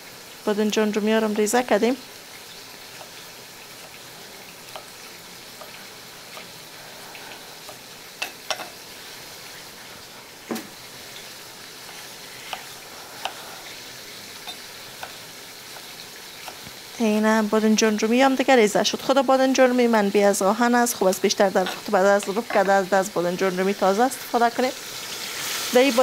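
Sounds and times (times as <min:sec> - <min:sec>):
meat frying in oil: 0:00.0 - 0:26.0.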